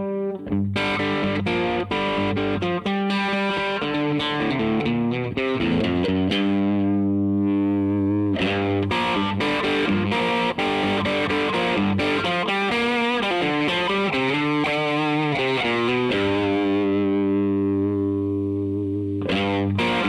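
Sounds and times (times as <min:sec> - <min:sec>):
distorted electric guitar lead: 0:00.0 - 0:20.0.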